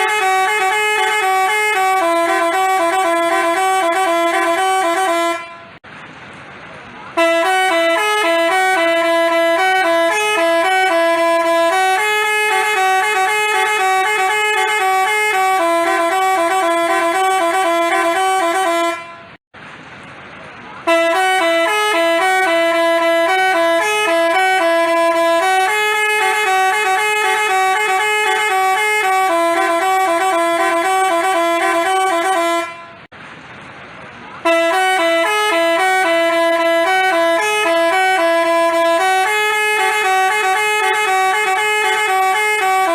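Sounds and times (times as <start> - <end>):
multi-tone horn playing melody: 0.0 - 5.8, 7.1 - 19.4, 20.8 - 33.1, 34.4 - 42.9.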